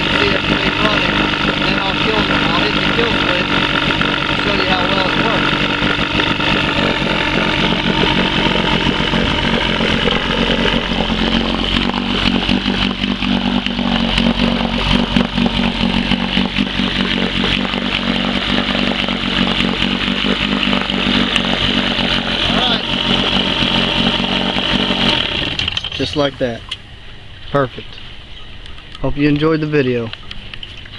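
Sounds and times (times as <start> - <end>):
outboard motor running: 0.0 - 30.9.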